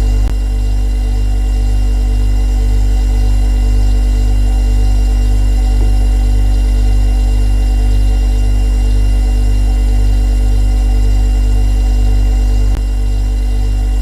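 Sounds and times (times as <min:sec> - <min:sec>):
refrigerator compressor humming: 0:00.0 - 0:14.0.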